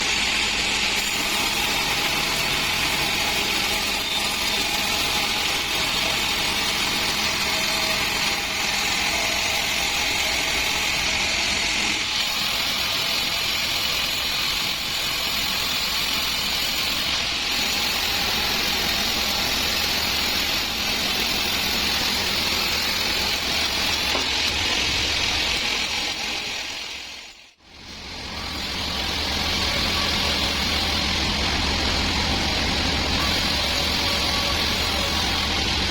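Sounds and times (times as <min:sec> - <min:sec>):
band saw running: 0:00.0 - 0:35.9.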